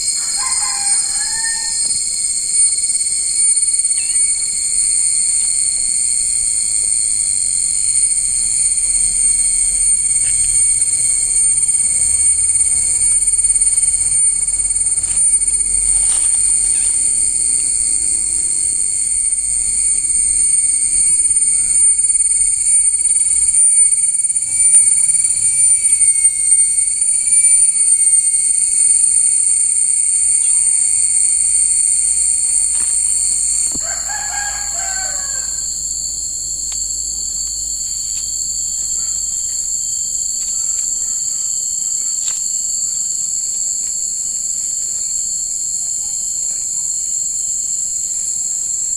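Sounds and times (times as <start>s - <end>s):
insects shrilling: 0.0s - 48.9s.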